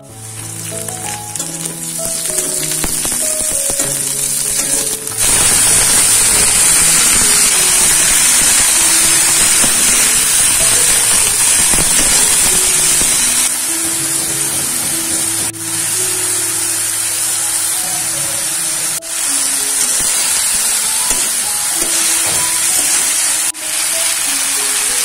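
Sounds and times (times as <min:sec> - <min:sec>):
background music: 0:00.0 - 0:25.0
oil sizzling in a wok: 0:00.0 - 0:25.0.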